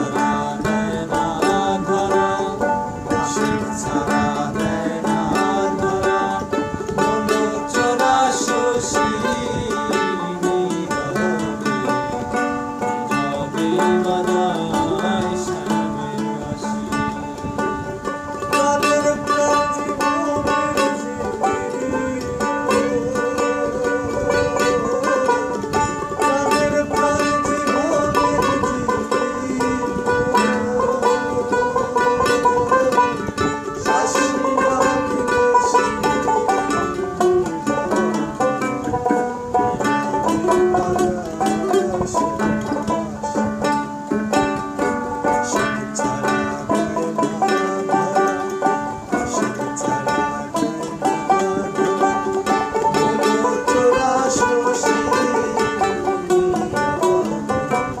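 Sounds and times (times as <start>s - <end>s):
plucked string folk music: 0.0s - 58.0s.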